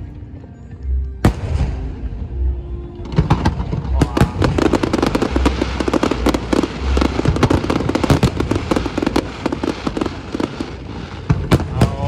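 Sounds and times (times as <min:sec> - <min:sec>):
low rumble: 0:00.9 - 0:12.0
fireworks bangs and crackles: 0:01.2 - 0:12.0.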